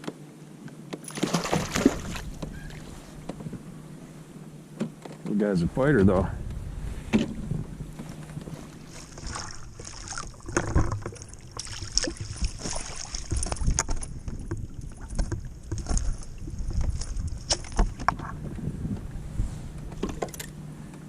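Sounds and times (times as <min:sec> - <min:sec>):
water lapping against kayak hull: 0:00.9 - 0:05.4, 0:06.0 - 0:20.3.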